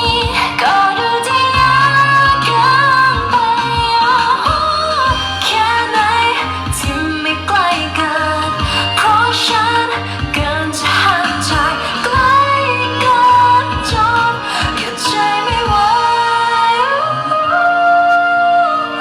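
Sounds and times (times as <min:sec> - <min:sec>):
heavy bass and drums beat: 0:00.0 - 0:16.2
woman singing: 0:00.0 - 0:19.0.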